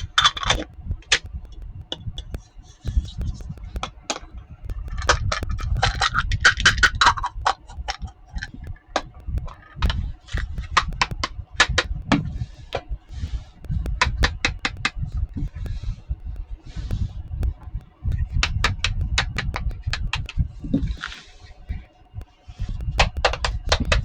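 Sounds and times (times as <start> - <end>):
plastic toy pieces clicking: 0.0 - 12.9, 13.5 - 24.0.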